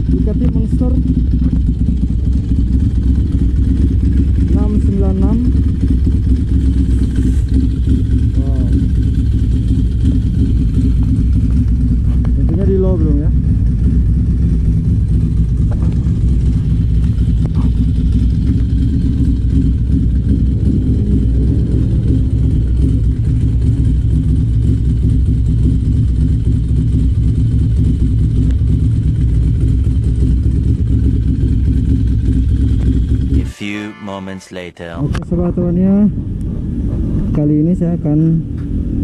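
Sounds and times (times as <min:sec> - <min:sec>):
motorcycle engine idling: 0:00.0 - 0:33.3.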